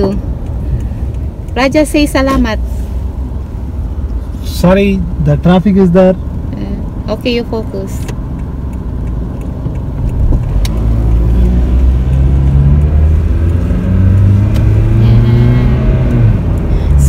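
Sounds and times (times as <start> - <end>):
car engine accelerating: 0.0 - 17.0
road noise inside car: 0.0 - 17.0.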